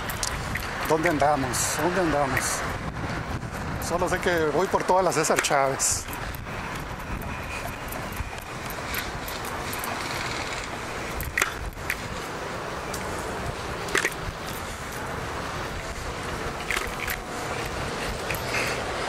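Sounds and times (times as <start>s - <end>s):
wheels clacking over joints: 0.0s - 2.6s, 3.8s - 19.0s
scooter rolling on concrete: 0.0s - 19.0s.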